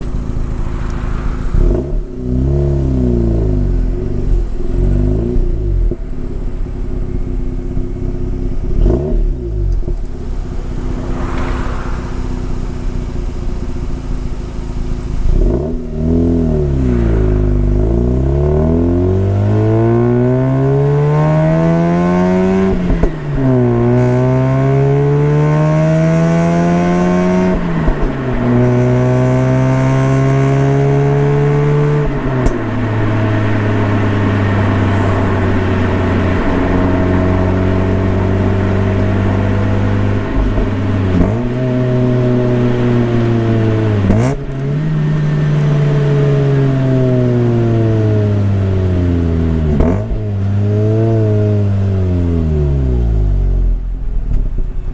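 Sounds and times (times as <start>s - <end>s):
rotary engine revving: 0.0s - 53.8s.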